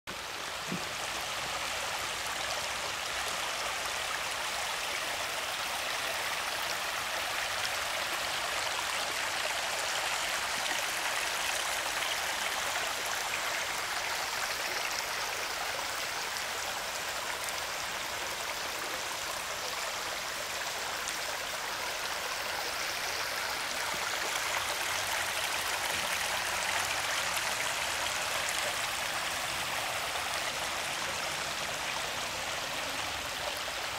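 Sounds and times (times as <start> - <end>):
creek water rushing over bedrock: 0.1 - 33.9.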